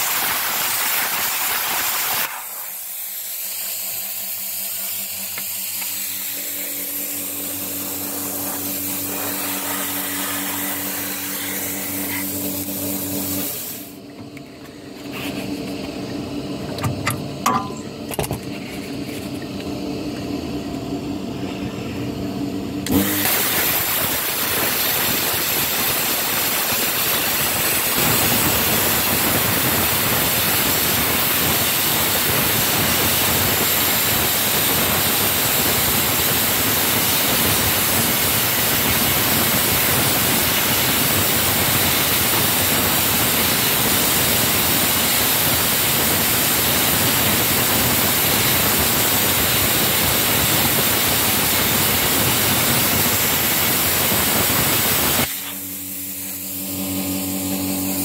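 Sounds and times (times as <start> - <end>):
blowtorch hissing: 0.0 - 14.1, 22.8 - 58.0.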